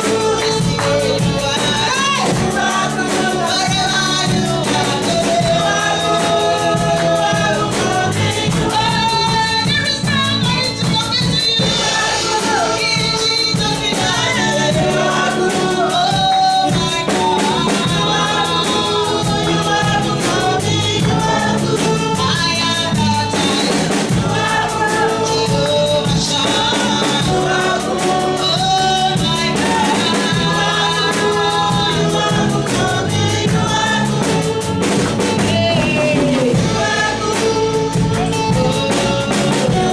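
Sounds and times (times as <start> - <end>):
drums: 0.0 - 39.9
voices singing gospel music: 0.0 - 39.9.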